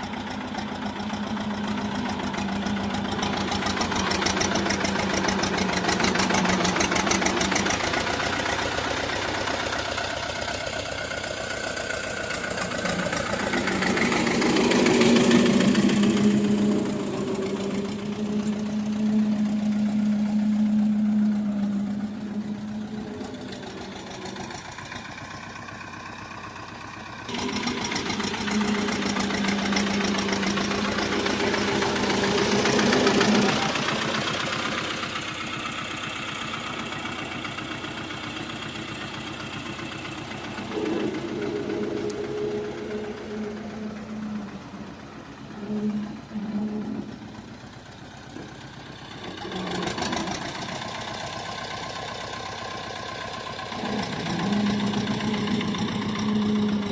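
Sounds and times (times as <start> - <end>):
tractor diesel engine knocking: 0.0 - 56.9.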